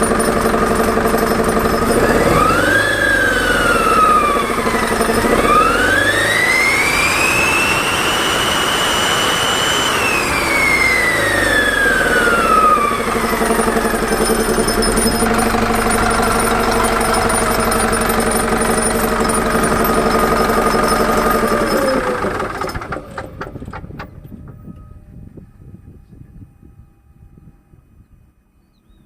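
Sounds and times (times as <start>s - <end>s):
engine idling and revving: 0.0s - 24.6s
high turbo whine: 0.0s - 27.9s.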